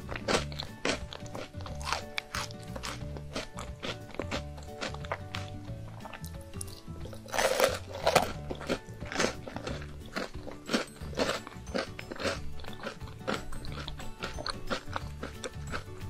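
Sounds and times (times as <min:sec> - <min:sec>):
background music: 0:00.0 - 0:16.0
chocolate ball crunching: 0:00.0 - 0:16.0.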